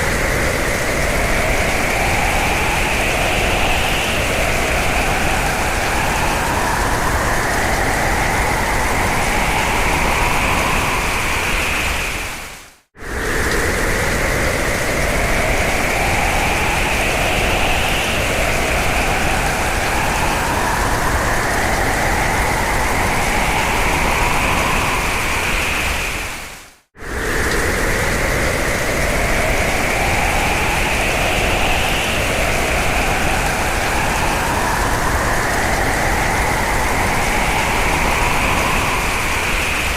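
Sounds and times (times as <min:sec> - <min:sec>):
howling wind: 0:00.0 - 0:39.9.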